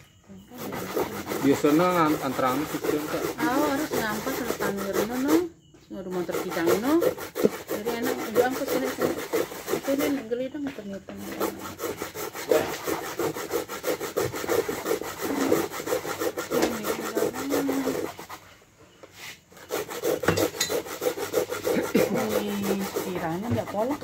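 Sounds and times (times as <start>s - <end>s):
coconut grater scraping: 0.4s - 18.6s, 19.2s - 24.0s.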